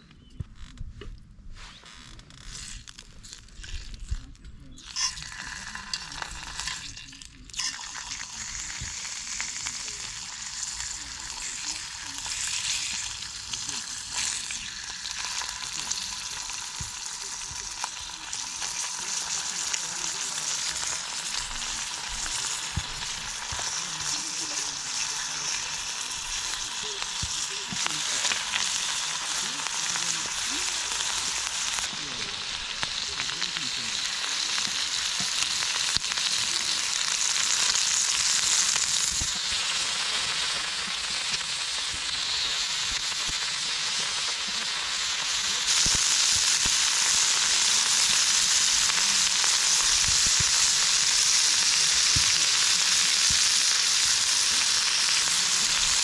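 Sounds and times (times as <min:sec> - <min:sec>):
food sizzling in fat: 0:01.5 - 0:56.0.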